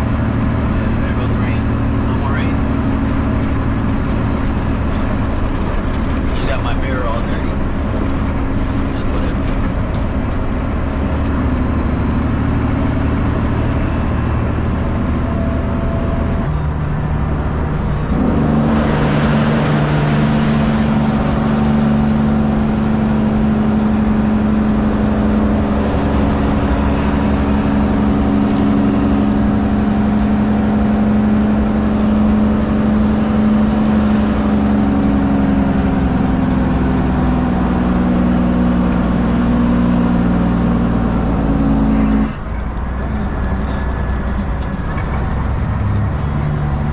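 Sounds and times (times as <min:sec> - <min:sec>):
loud diesel truck engine: 0:00.0 - 0:46.9.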